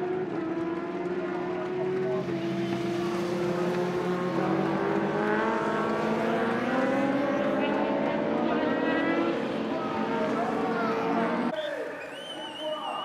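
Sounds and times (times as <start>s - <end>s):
motorbike accelerating: 0.0s - 11.5s
motorbike engines at high revs: 0.0s - 11.5s.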